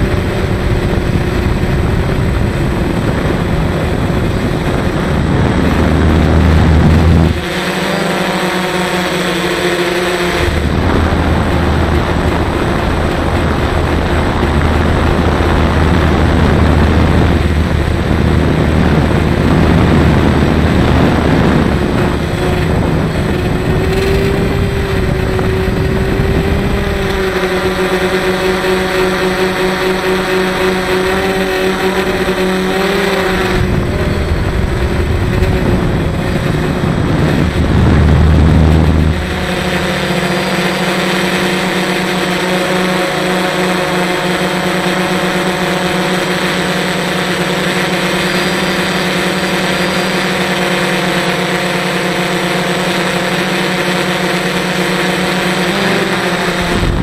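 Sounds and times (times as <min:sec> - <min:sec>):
drone motors whining: 0:00.0 - 0:57.0
wind rumble on microphone: 0:00.0 - 0:57.0.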